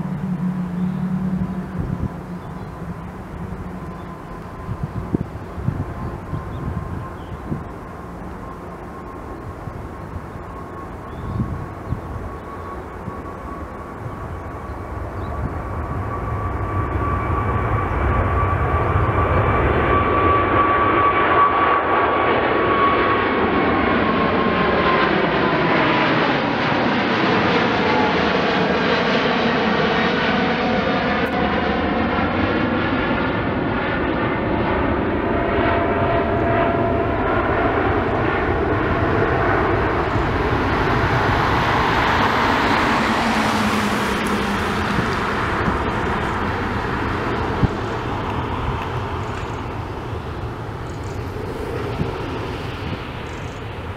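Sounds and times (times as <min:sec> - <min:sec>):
jet engine noise with high whine: 0:00.0 - 0:53.9.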